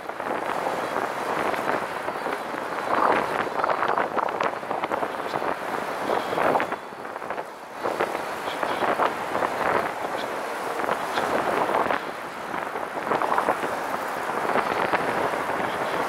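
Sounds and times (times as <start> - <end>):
passing road traffic: 0.0 - 16.0
wind buffeting microphone: 0.0 - 16.0.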